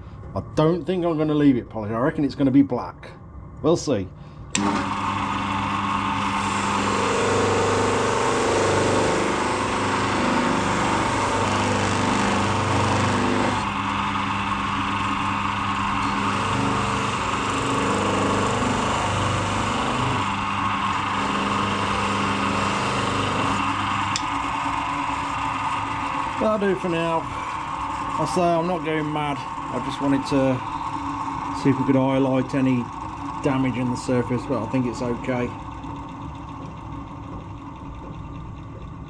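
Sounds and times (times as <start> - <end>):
electric polisher humming: 4.6 - 36.7.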